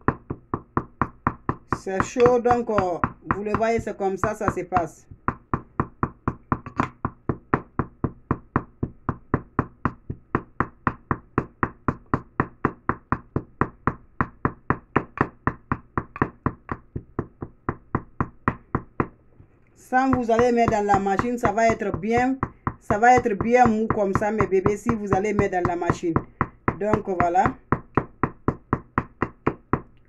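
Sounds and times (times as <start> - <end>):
wooden pestle pounding in mortar: 0.0 - 19.2, 19.8 - 30.0.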